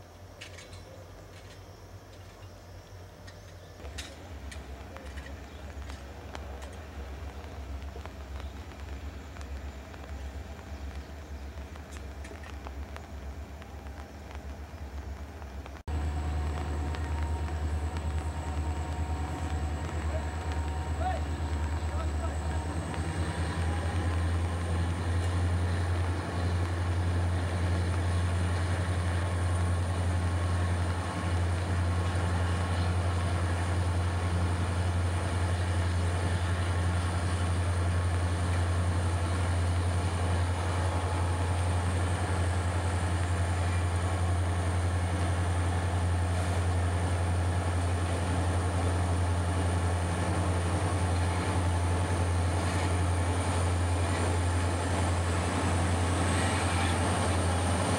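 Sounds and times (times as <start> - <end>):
locomotive engines droning: 0.0 - 57.9.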